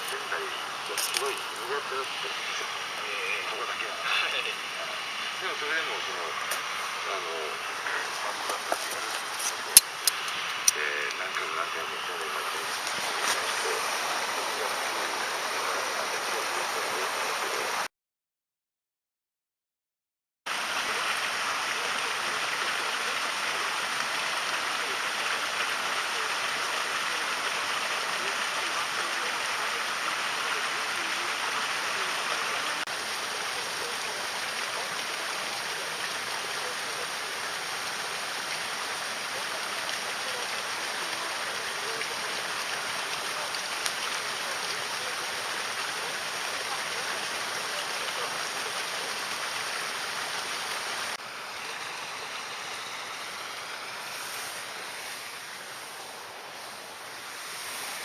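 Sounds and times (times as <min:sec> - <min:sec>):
river water rushing: 0:00.0 - 0:17.8, 0:20.5 - 0:58.0.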